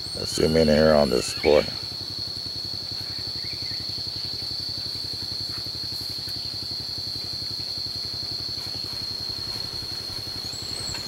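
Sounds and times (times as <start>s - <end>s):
engine idling: 0.0s - 11.0s
high-pitched insect drone: 0.0s - 11.0s.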